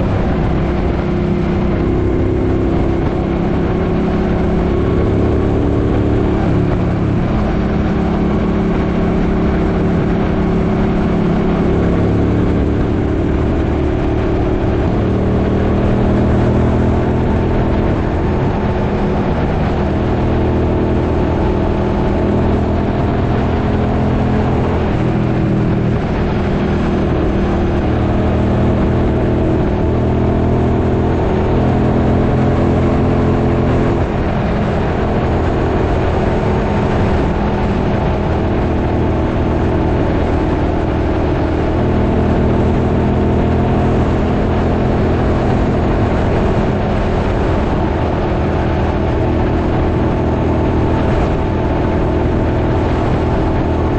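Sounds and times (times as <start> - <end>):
motorcycle engine cruising: 0.0 - 53.9
wind noise on microphone: 0.0 - 53.9.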